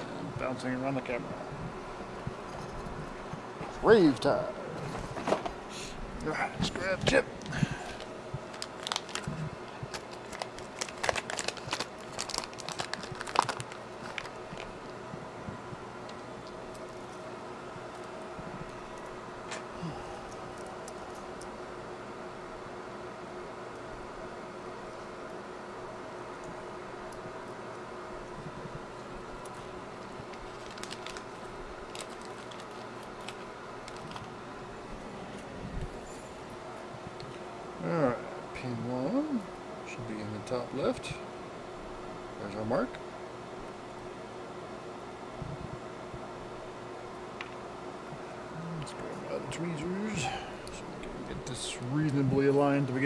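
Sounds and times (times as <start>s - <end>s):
fan whirring: 0.0s - 53.0s
steady hum: 0.0s - 53.0s.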